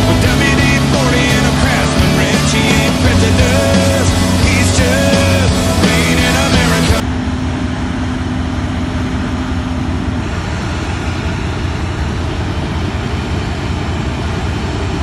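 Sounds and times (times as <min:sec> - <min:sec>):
machinery engine running: 0:00.0 - 0:15.0.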